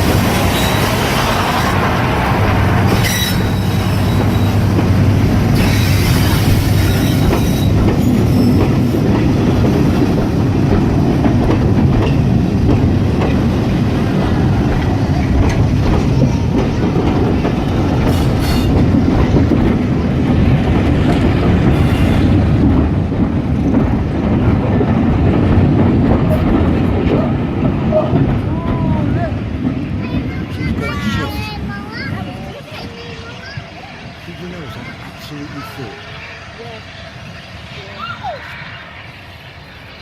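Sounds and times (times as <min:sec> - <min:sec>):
clickety-clack of rails: 0:00.0 - 0:40.0
train wheels rumbling on rails: 0:00.0 - 0:40.0.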